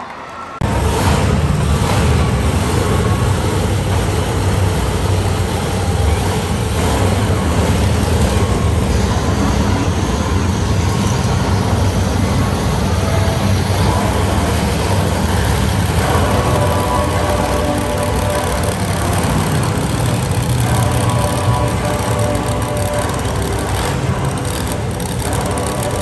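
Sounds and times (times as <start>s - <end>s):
truck engine rumbling: 0.6s - 26.0s.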